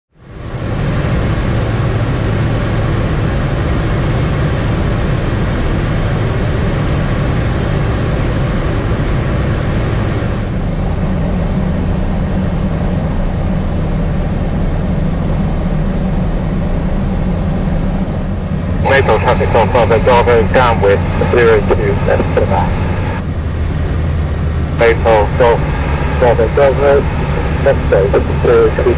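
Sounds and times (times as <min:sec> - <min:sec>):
aircraft engine droning: 0:00.2 - 0:28.9.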